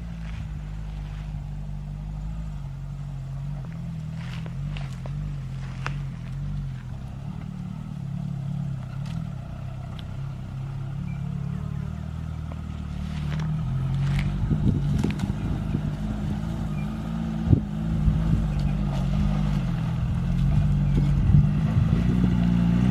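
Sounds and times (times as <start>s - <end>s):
car engine running: 0.0s - 22.9s.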